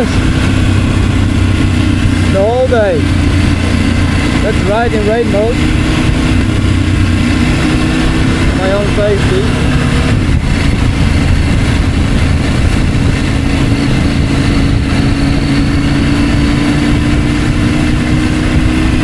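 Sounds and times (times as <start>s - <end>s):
motorcycle engine running: 0.0s - 19.0s
wind noise: 0.0s - 19.0s.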